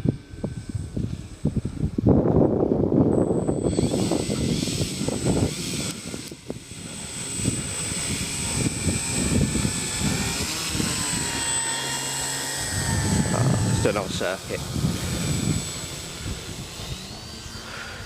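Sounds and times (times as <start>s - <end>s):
model plane motor whine: 0.0s - 18.0s
wind buffeting microphone: 0.0s - 18.0s.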